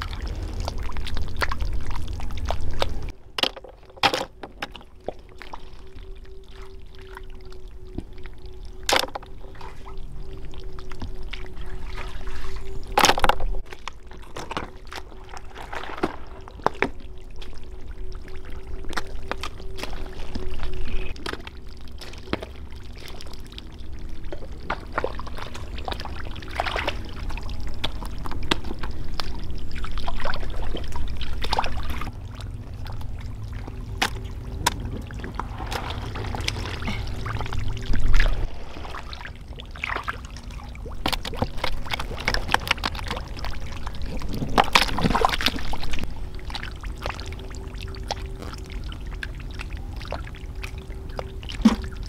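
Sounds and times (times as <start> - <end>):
water splashing and pouring: 0.0 - 52.0.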